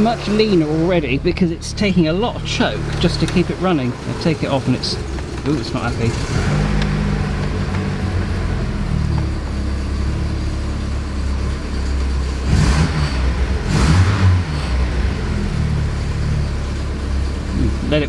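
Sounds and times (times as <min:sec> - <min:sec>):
car engine running unevenly: 0:00.0 - 0:18.0.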